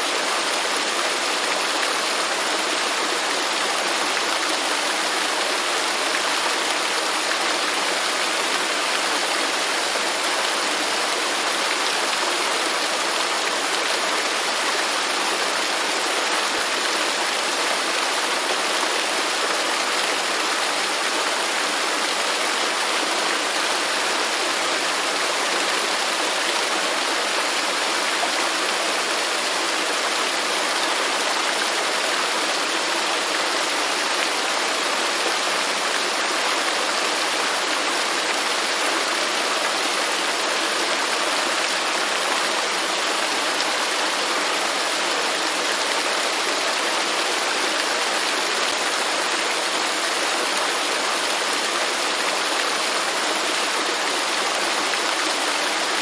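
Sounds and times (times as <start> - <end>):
waterfall rushing and splashing: 0.0 - 56.0.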